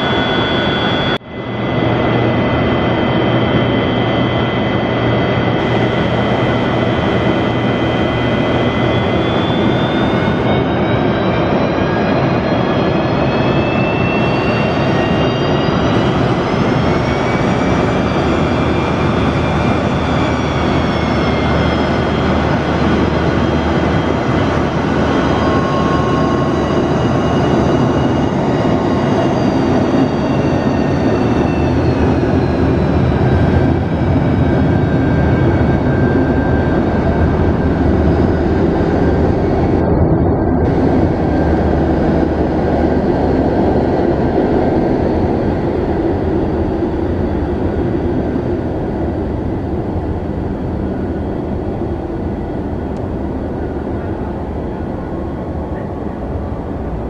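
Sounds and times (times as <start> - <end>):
jet engine high whine: 0.0 - 57.0
jet engines rumbling: 0.0 - 57.0.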